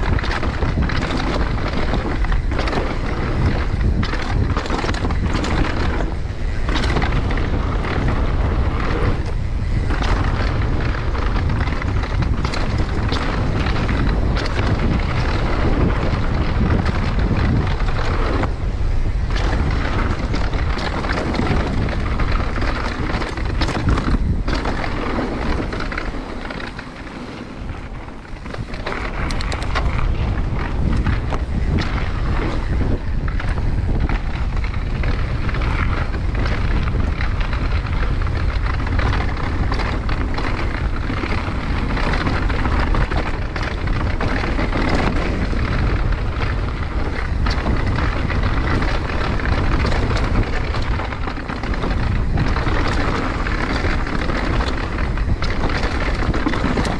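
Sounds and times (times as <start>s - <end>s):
bike clattering over bumps: 0.0s - 56.9s
tyres rumbling on dirt: 0.0s - 56.9s
wind noise on microphone: 0.0s - 56.9s.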